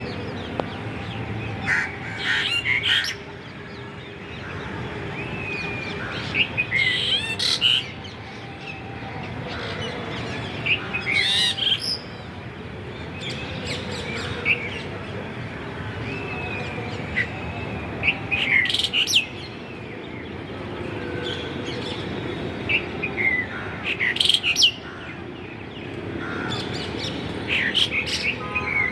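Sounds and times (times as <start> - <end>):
steady background noise: 0.0 - 28.9.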